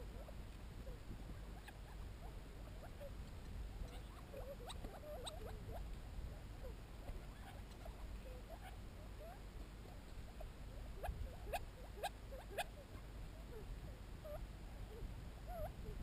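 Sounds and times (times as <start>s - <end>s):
low steady rumble: 0.0s - 16.0s
quail contact calls: 0.0s - 16.0s.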